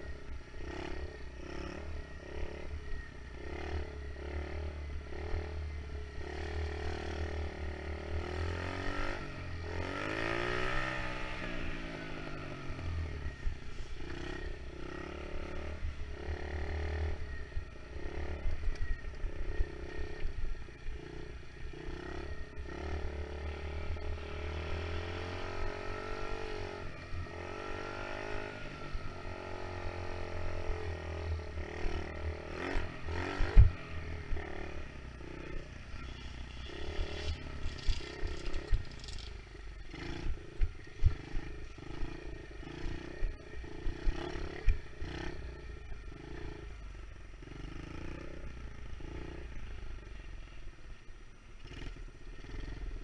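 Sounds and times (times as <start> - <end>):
dirt bike engine revving: 0.0 - 46.7.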